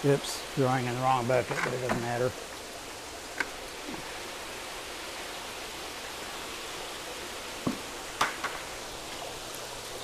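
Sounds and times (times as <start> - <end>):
water splashing into vats: 0.0 - 10.0.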